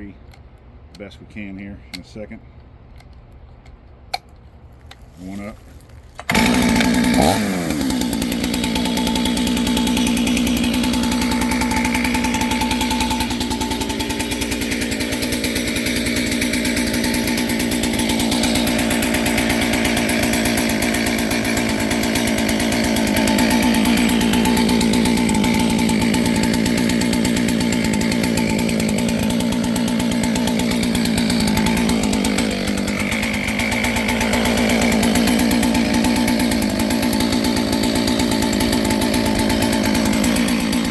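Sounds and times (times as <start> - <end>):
chainsaw engine running: 6.2 - 40.9.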